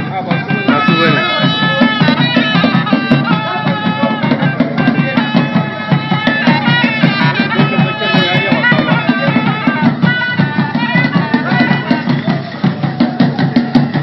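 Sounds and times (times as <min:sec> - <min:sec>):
bagpipe-like wind instrument: 0:00.0 - 0:14.0
quick steady drumbeat: 0:00.0 - 0:14.0.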